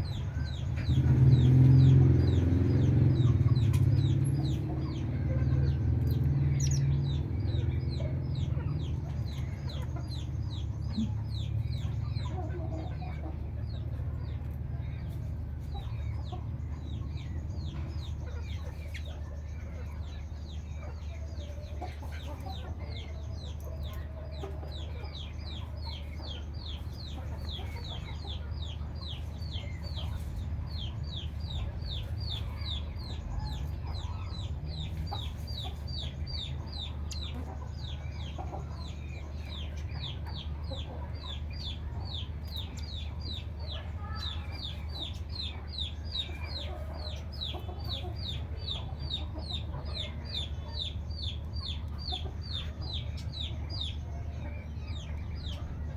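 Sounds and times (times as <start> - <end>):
small bird calling: 0.0 - 55.9.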